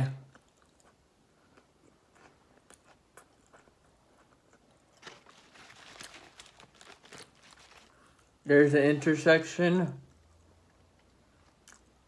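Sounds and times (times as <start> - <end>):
person chewing crunchy food: 0.2 - 8.4, 10.2 - 12.0.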